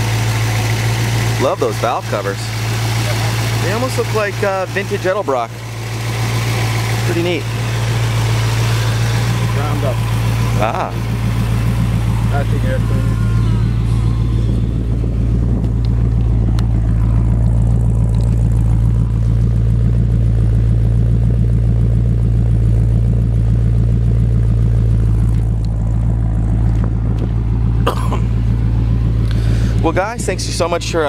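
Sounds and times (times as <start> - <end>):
engine idling with low rumble: 0.0 - 31.0.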